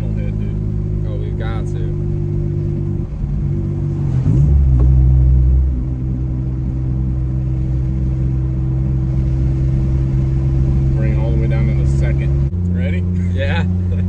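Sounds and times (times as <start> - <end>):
car engine and exhaust while driving: 0.0 - 14.0.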